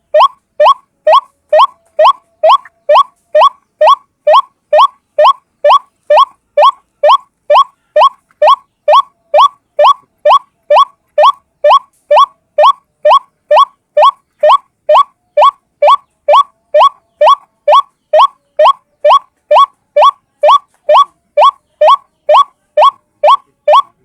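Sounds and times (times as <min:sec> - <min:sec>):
bird calling upward-sweeping notes: 0:00.1 - 0:23.9.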